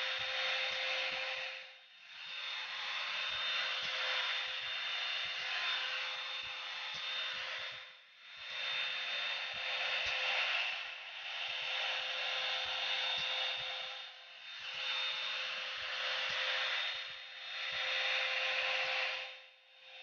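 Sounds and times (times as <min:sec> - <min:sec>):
hot-air brush blowing air: 0:00.0 - 0:20.0
thin motor whine: 0:00.0 - 0:20.0.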